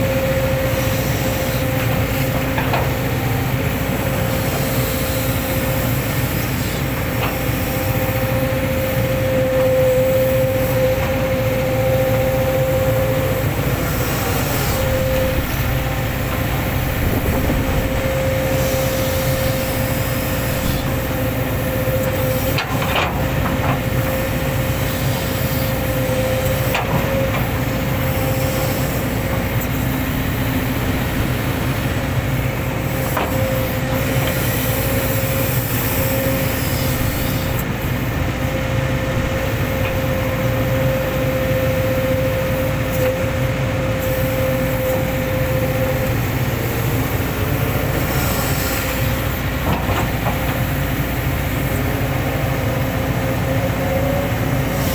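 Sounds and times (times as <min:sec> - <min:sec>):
excavator diesel engine running: 0:00.0 - 0:54.9
steady whine: 0:00.0 - 0:54.9.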